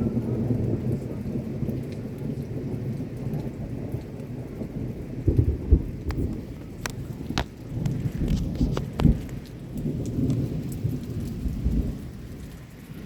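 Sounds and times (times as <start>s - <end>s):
steady rain: 0.0s - 13.0s
thunder rumbling: 0.0s - 13.0s.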